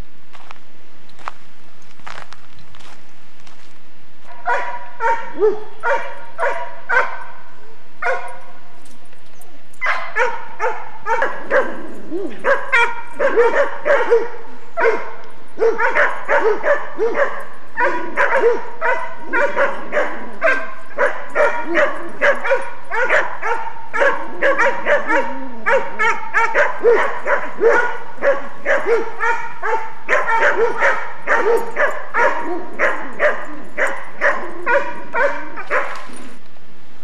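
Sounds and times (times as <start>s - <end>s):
dogs barking and yipping: 4.2s - 36.4s.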